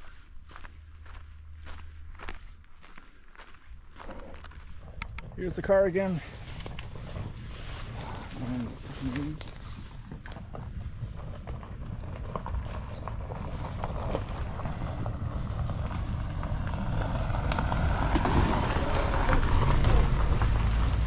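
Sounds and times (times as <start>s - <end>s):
car approaching on dirt road: 0.0s - 21.0s.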